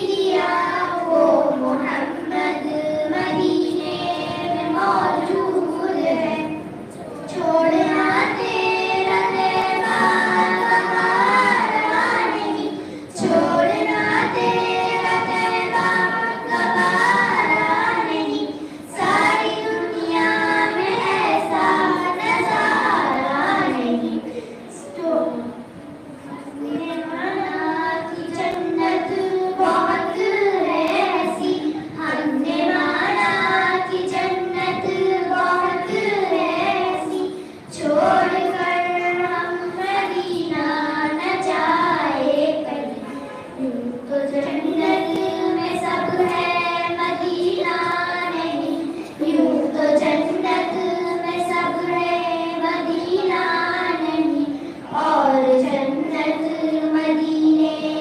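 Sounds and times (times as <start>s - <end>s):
girls singing into a microphone: 0.0s - 58.0s.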